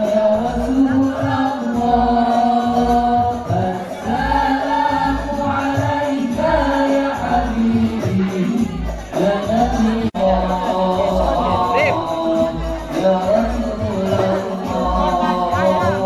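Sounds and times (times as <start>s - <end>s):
hand frame drums beating: 0.0s - 16.0s
voices singing long held notes: 0.0s - 16.0s.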